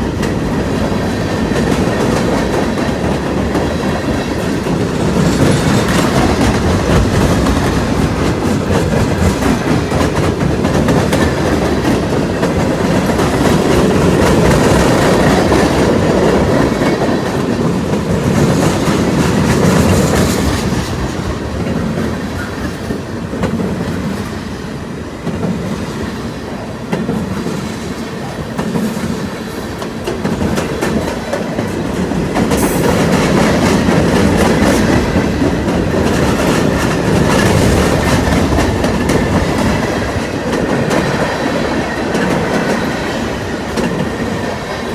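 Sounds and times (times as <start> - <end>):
train wheels clacking on rails: 0.0 - 44.9.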